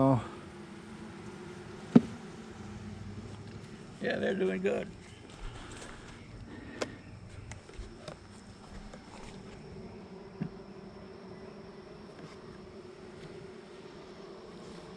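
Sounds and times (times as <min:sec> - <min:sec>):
honeybees buzzing: 0:00.0 - 0:14.9.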